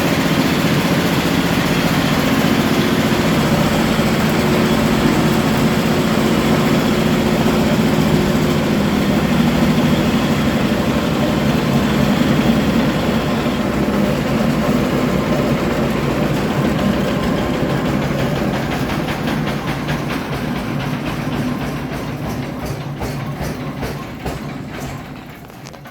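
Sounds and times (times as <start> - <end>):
machine engine running: 0.0 - 25.9.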